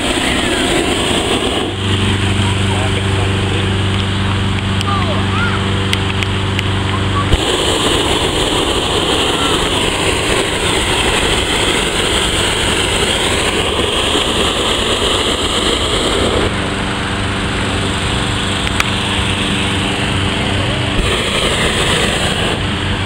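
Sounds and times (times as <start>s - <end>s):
propane burner blasting: 0.0s - 23.0s
steady engine hum: 0.0s - 23.0s.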